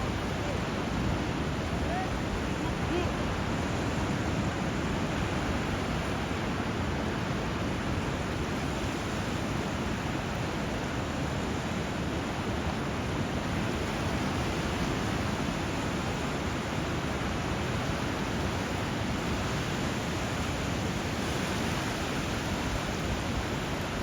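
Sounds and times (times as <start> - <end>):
flowing water and surf: 0.0 - 24.0.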